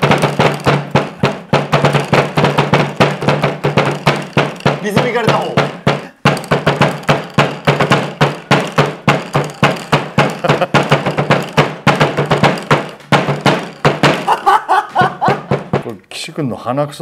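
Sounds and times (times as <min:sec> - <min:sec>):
hammers knocking foil on table: 0:00.0 - 0:16.0.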